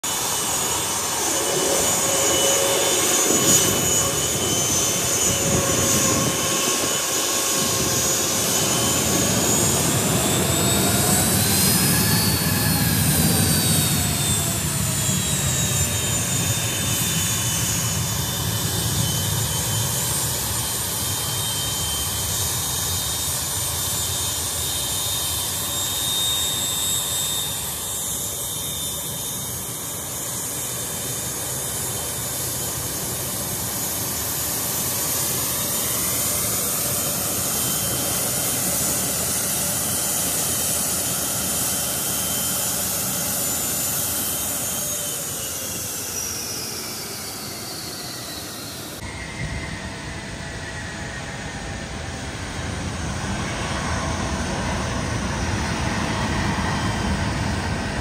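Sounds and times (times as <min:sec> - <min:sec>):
jet engines idling while taxiing: 0:00.0 - 0:58.0.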